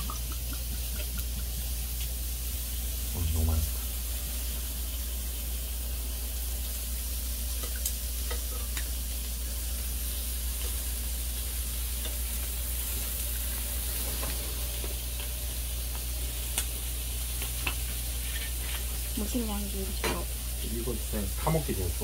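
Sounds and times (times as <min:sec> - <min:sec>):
low steady hum: 0:00.0 - 0:22.0
sizzling hiss: 0:00.0 - 0:22.0.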